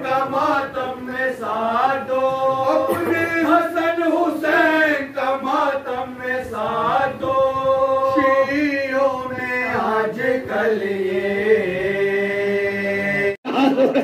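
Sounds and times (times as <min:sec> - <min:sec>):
men chanting into microphone: 0:00.0 - 0:13.4.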